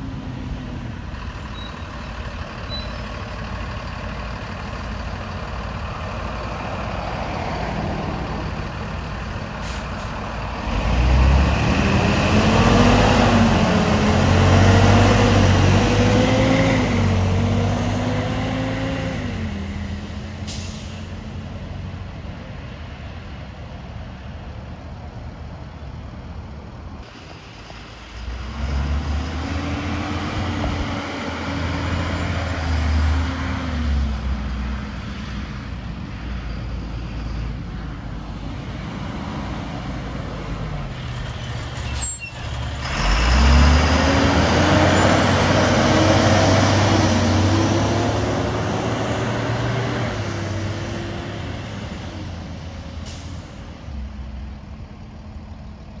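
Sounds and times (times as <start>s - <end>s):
diesel buses pulling away: 0.0s - 56.0s.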